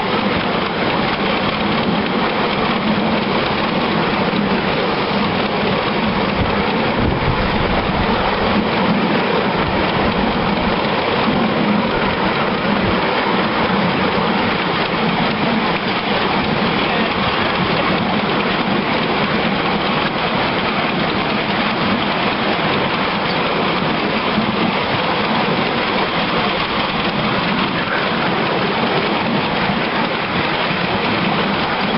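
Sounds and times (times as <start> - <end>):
miniature steam locomotive rushing: 0.0 - 31.9.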